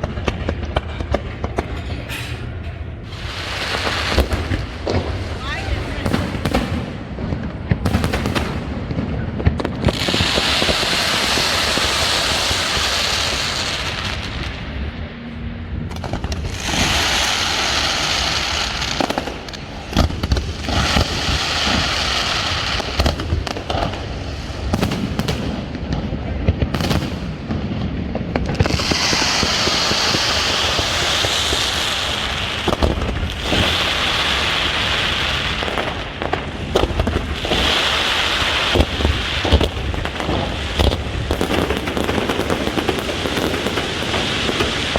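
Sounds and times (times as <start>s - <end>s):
fireworks crackling: 0.0s - 14.9s, 15.8s - 44.9s
fireworks bursting with bangs: 0.0s - 15.0s, 15.8s - 44.9s.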